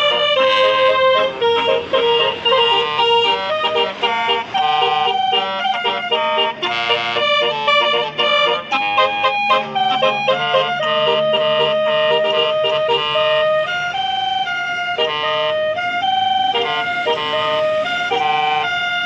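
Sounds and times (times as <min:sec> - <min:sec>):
multi-tone bus air horn melody: 0:00.0 - 0:19.0.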